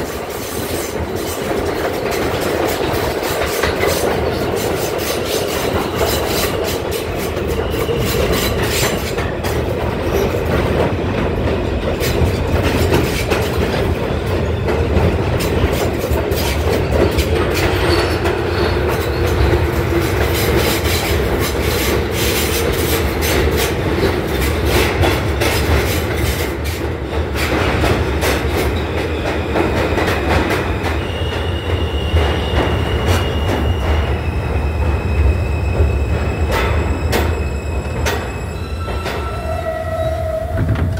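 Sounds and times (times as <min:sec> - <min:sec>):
wheels clickety-clack: 0:00.0 - 0:34.1, 0:34.8 - 0:37.4
high train whine: 0:00.0 - 0:40.9
subway train wheels rumbling: 0:00.0 - 0:40.9.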